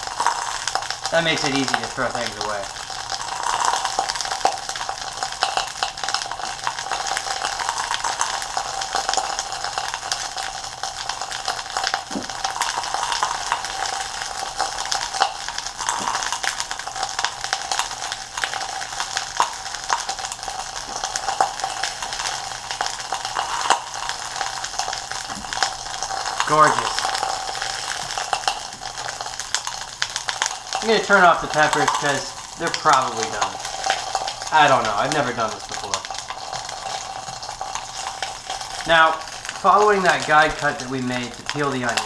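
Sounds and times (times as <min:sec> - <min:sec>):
peppers sizzling in oil: 0:00.0 - 0:42.0.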